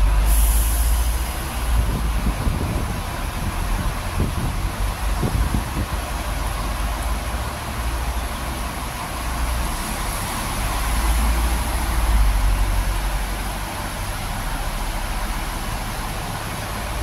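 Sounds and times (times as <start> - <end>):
bus diesel engines idling: 0.0 - 17.0.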